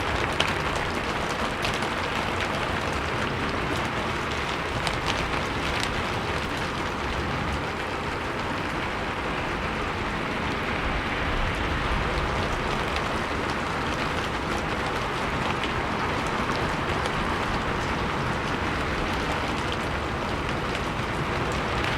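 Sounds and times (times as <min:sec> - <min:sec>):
rain falling on a roof: 0:00.0 - 0:21.9
sharp rain drop strikes: 0:00.0 - 0:21.9.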